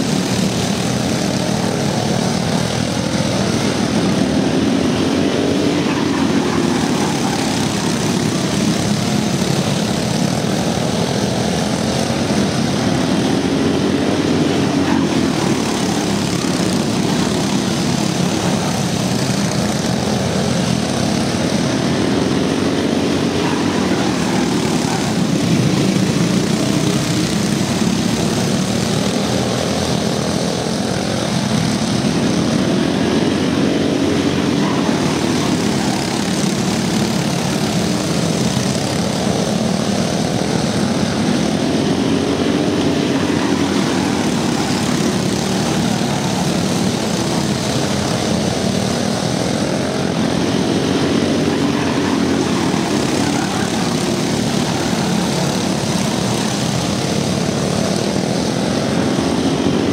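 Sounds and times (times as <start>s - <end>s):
go-kart engines droning: 0.0s - 59.9s.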